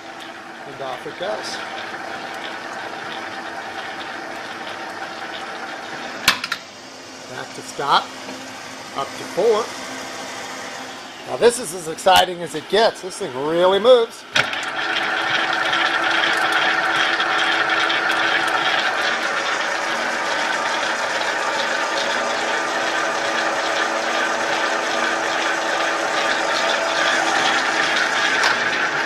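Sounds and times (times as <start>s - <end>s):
mixer whining with light ticks: 0.0s - 29.0s.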